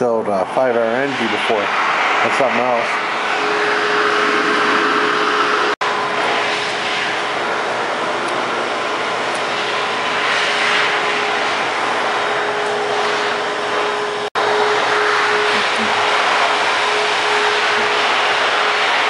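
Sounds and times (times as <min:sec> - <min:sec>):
constant hum: 0:00.0 - 0:19.0
machinery whirring: 0:00.0 - 0:19.0.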